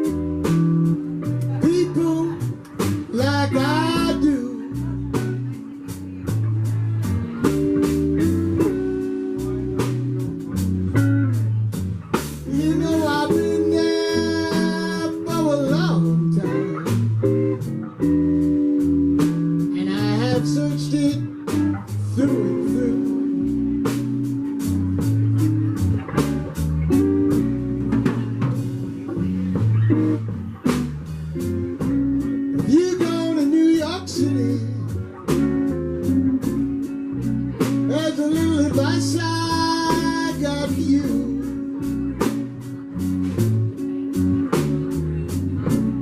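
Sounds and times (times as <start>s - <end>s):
blues band playing: 0.0s - 46.0s
drum kit beat: 0.0s - 46.0s
guitar: 0.0s - 46.0s
walking bass line: 0.0s - 46.0s.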